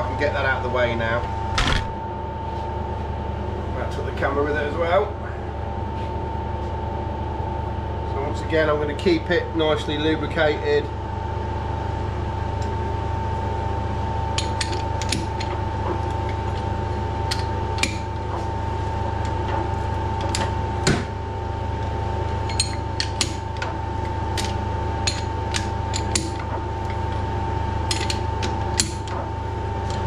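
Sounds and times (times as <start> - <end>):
workshop hum: 0.0 - 30.0.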